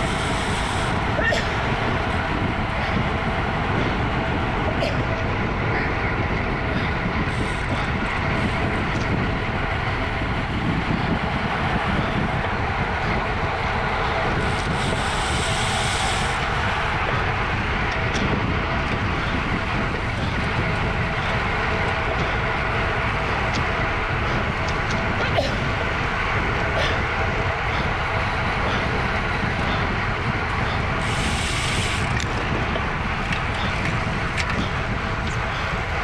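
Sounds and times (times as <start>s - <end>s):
road noise: 0.0s - 36.0s
wind rushing over microphone: 0.0s - 36.0s.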